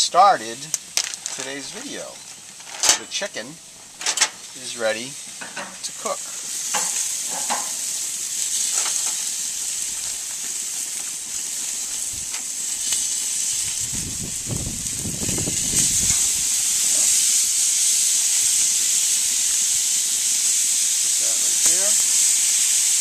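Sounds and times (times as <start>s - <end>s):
chicken sizzling on grill: 0.0s - 23.0s.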